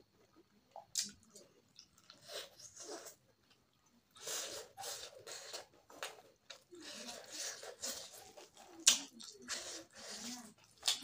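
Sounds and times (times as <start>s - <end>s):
chewing: 0.2s - 11.0s.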